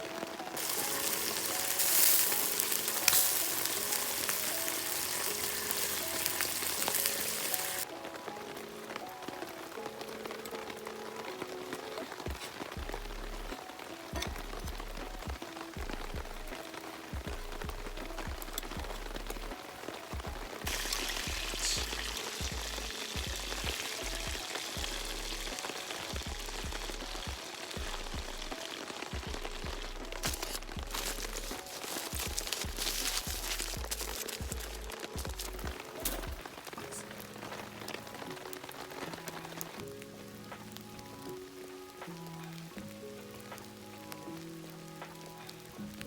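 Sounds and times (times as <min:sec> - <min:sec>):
campfire crackling and popping: 0:00.0 - 0:46.0
steady rain falling: 0:00.0 - 0:46.0.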